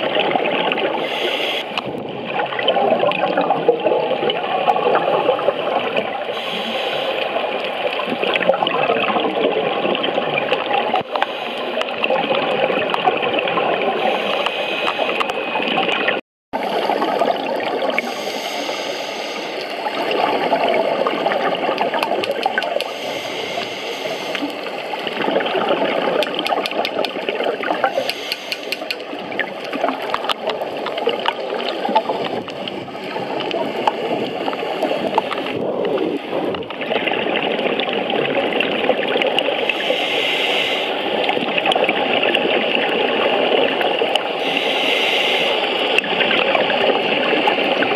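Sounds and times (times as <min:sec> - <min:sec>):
underwater air bubbling: 0:00.0 - 0:47.9.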